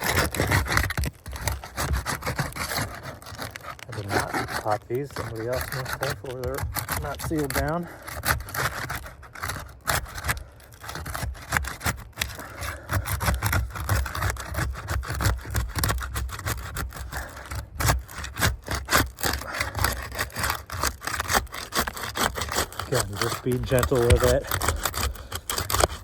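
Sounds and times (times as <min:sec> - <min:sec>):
flat bar scraping under shingles: 0:00.0 - 0:26.0.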